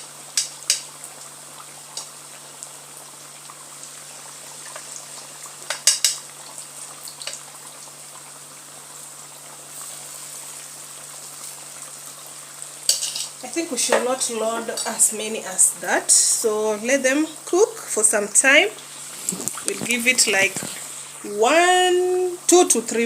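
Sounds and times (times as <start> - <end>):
food deep-frying in hot oil: 0.0 - 23.0.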